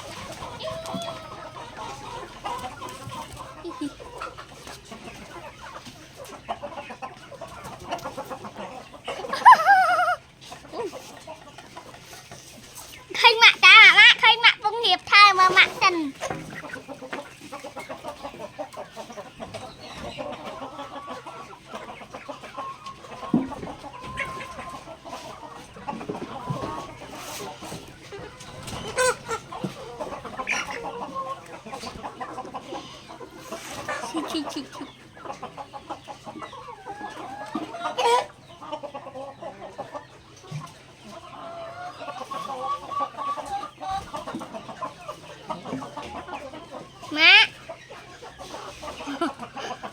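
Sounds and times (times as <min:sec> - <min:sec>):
chickens clucking: 0:00.0 - 0:49.9
sharp chicken calls: 0:00.0 - 0:49.9.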